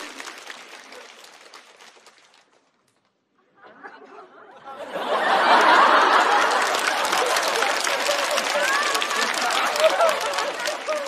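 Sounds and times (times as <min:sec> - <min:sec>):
audience laughing and applauding: 0:00.0 - 0:02.5, 0:03.4 - 0:11.0.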